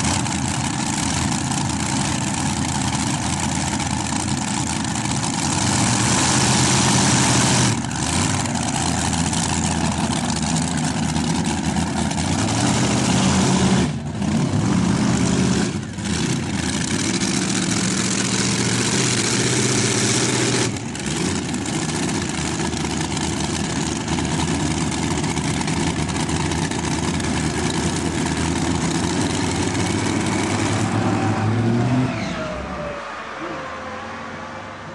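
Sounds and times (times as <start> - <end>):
tractor engines running hard: 0.0 - 34.9.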